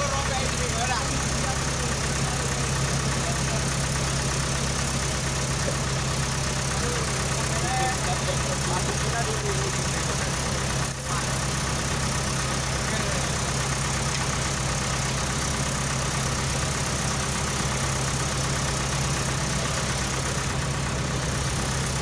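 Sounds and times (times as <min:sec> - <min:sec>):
truck engine humming: 0:00.0 - 0:22.0.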